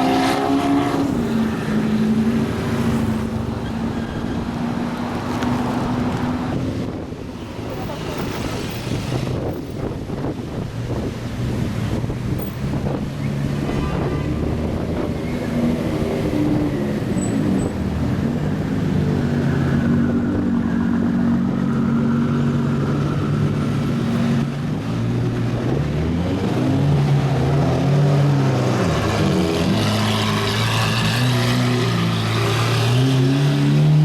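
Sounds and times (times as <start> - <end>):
car engines accelerating: 0.0 - 34.0.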